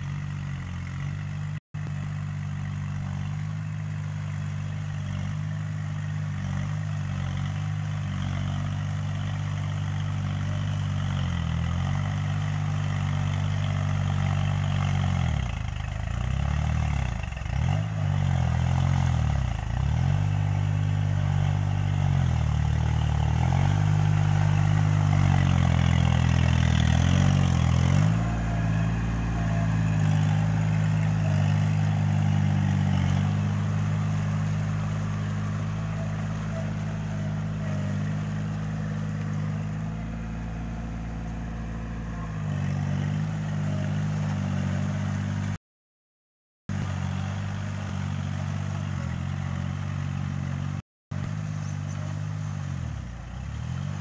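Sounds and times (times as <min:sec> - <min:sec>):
tractor diesel engine under load: 0:00.0 - 0:45.6, 0:46.7 - 0:54.0.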